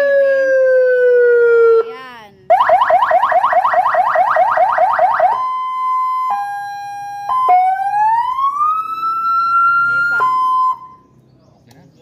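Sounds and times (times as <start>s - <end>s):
electronic fire truck siren: 0.0s - 1.8s, 2.5s - 11.0s.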